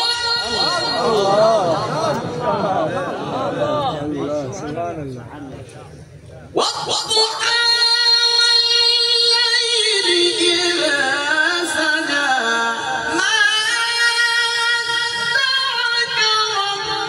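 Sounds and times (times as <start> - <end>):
man reciting melodically: 0.0 - 5.4, 6.5 - 17.0.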